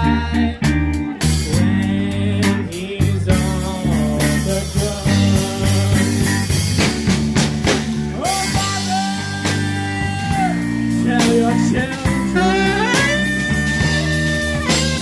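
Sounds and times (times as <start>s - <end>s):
live blues-rock band: 0.0s - 15.0s.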